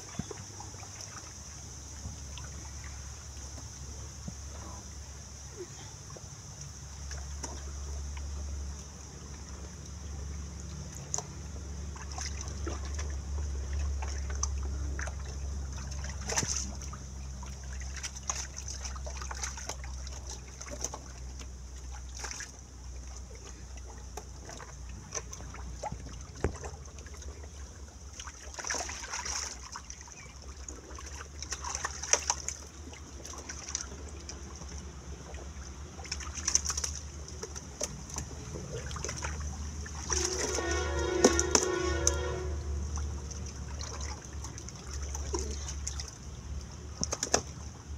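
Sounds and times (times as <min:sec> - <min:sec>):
muddy water splashing: 0:00.0 - 0:47.9.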